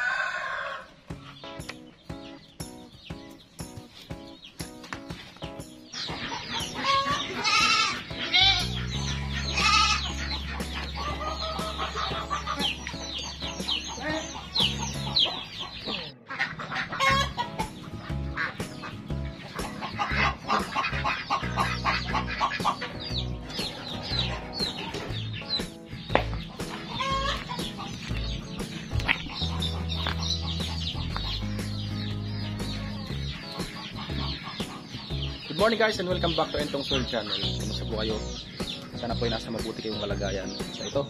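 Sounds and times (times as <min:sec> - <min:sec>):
background music with bass line: 0:00.0 - 0:16.1, 0:16.7 - 0:41.0
chickens clucking: 0:00.0 - 0:41.0.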